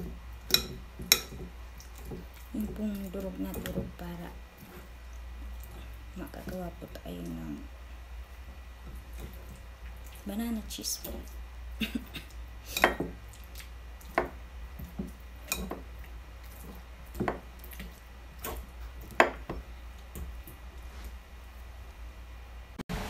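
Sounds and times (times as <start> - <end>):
soft squishing of mashing: 0.0 - 22.1
low steady hum: 0.0 - 23.0.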